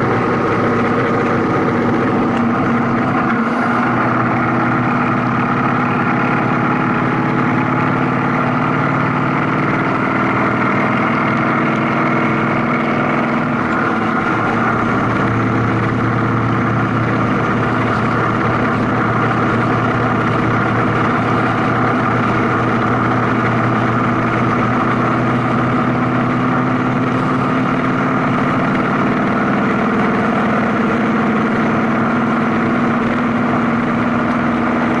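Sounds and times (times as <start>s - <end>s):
road noise: 0.0s - 35.0s
vehicle engine hum: 0.0s - 35.0s.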